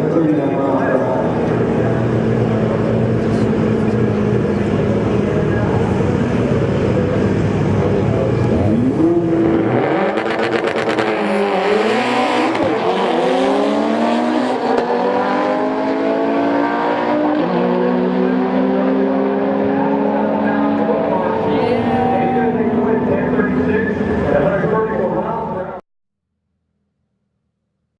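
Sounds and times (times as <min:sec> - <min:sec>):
drag car engine accelerating: 0:00.1 - 0:25.6.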